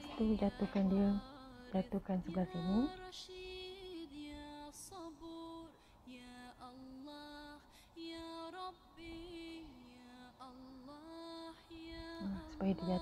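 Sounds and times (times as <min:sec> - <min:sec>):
woman singing slow melody: 0:00.0 - 0:13.0.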